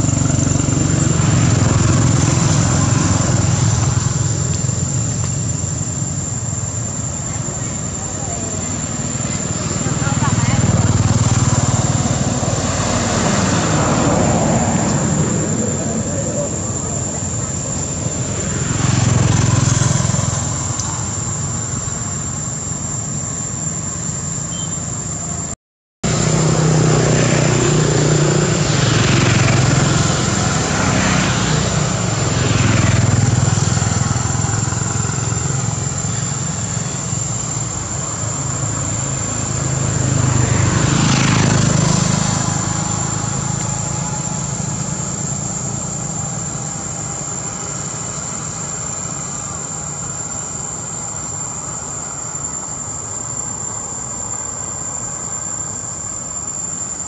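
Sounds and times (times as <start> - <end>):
steady high-pitched whine: 0.0 - 57.0
vehicles passing: 0.0 - 57.0.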